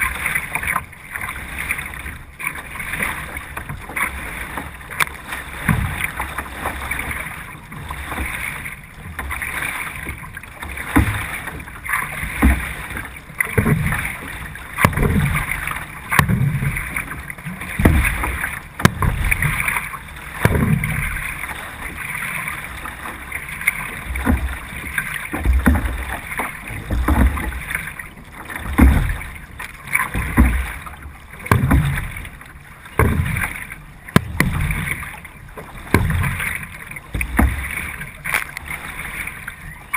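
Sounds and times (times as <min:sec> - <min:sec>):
paddle strokes splashing: 0:00.0 - 0:39.9
rushing water and wind: 0:00.0 - 0:39.9.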